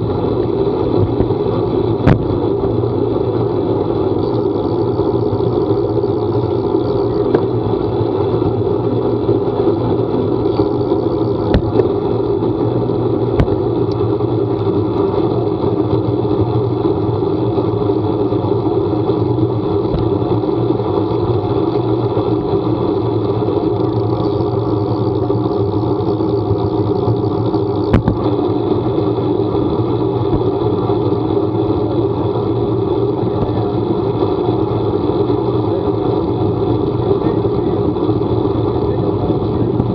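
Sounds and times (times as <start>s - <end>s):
vehicle engine hum: 0.0s - 39.9s.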